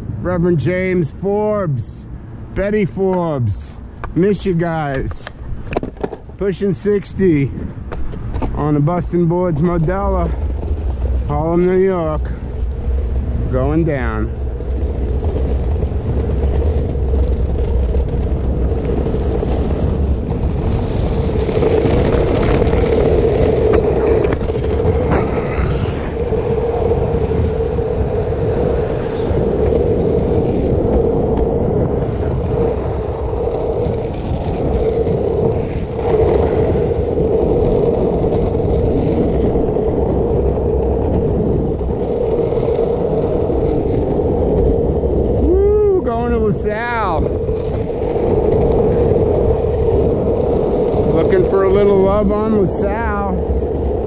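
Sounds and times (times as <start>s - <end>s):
skateboard wheels rolling on asphalt: 0.0s - 54.0s.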